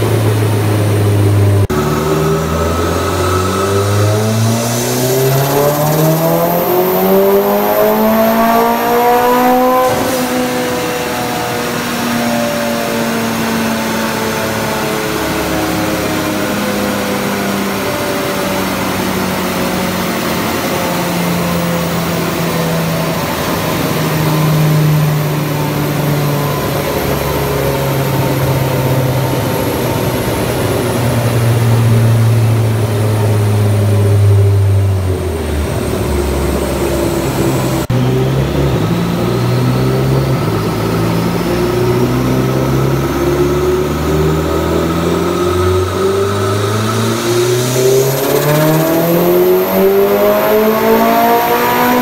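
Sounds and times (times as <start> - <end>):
car engine revving on dyno: 0.0 - 52.0
faint turbo whine: 0.0 - 52.0.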